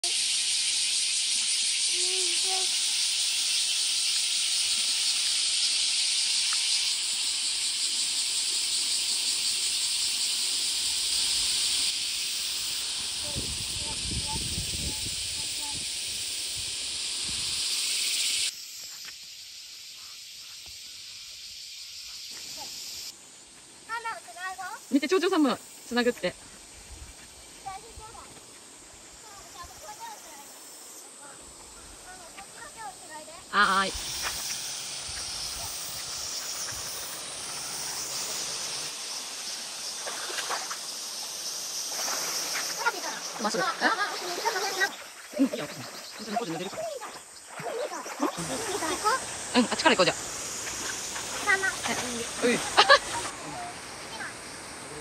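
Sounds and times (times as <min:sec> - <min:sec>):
high-pitched forest hiss: 0:00.0 - 0:55.0.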